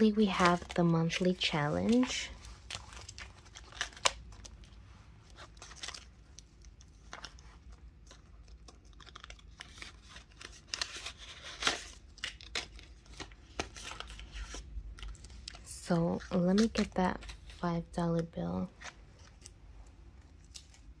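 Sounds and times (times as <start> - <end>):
plastic pages crinkling: 0.0 - 21.0.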